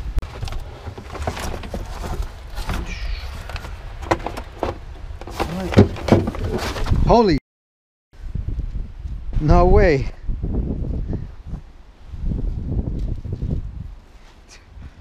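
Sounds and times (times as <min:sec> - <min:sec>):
wind rumble on microphone: 0:00.0 - 0:07.4, 0:08.2 - 0:15.0.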